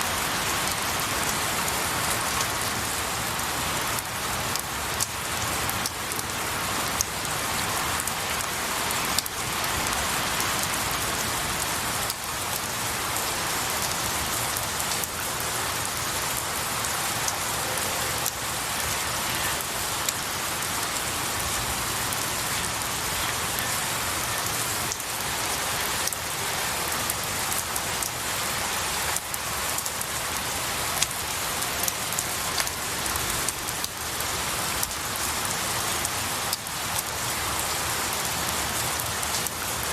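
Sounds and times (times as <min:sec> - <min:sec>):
rain pattering on trees: 0:00.0 - 0:39.9.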